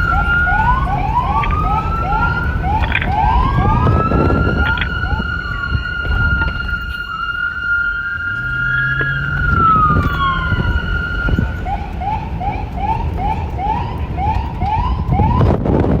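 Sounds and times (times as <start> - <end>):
police siren wailing and yelping: 0.0 - 15.6
low rumble: 0.0 - 16.0.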